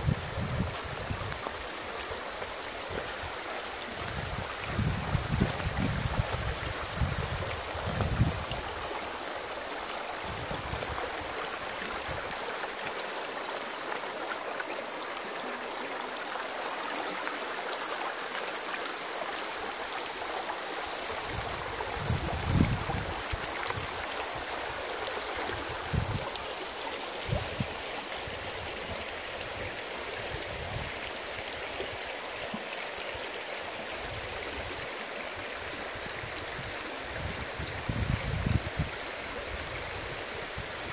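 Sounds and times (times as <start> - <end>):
stream running over stones: 0.0 - 40.9.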